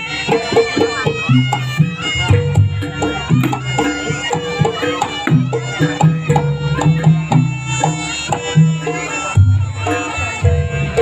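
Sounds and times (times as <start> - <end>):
hand drums beating quick rhythm: 0.0 - 11.0
reedy shawm melody: 0.0 - 11.0
ringing metal gamelan notes: 0.0 - 11.0.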